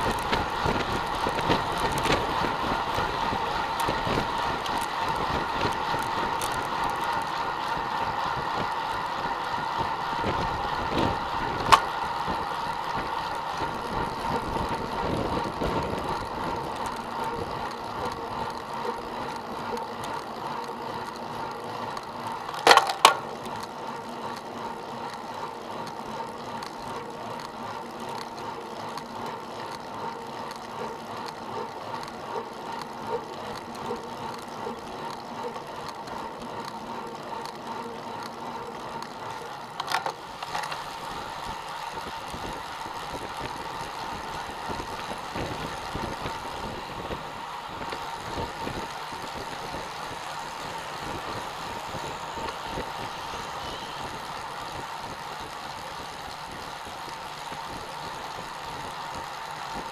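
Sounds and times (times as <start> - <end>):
bicycle tyre and drivetrain noise: 0.0 - 59.9.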